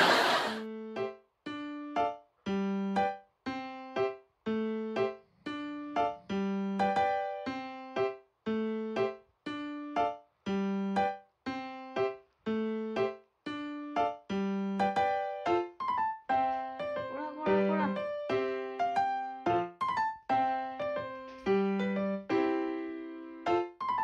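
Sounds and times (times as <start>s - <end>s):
light keyboard tune: 0.7s - 24.0s.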